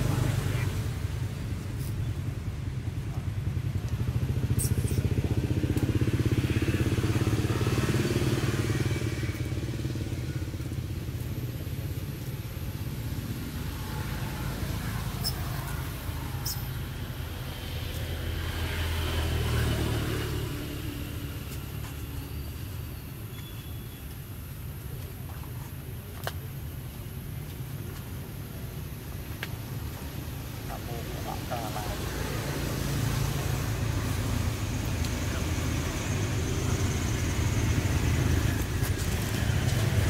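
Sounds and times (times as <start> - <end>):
passing vehicle engine rumble: 0.0 - 40.0.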